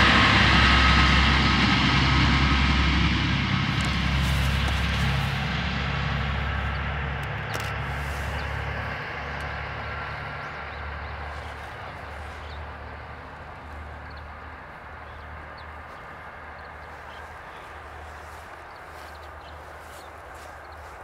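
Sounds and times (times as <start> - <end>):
railcar diesel engine drone: 0.0 - 21.0.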